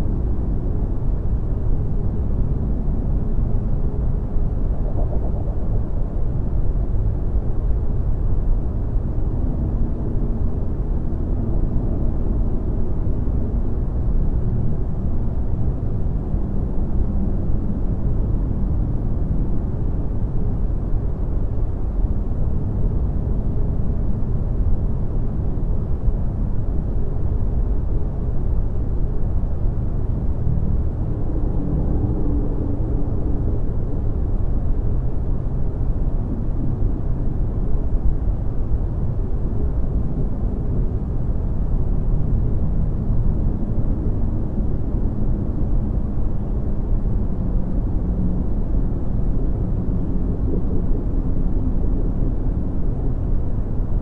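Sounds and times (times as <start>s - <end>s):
deep rumbling drone: 0.0s - 22.2s, 27.5s - 54.0s.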